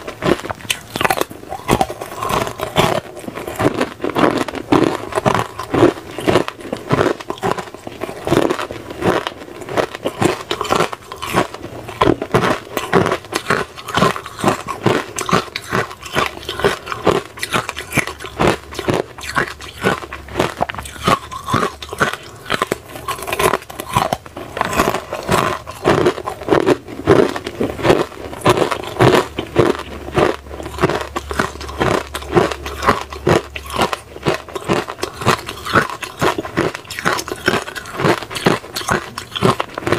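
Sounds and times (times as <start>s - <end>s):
ice cubes being crunched: 0.0s - 39.9s.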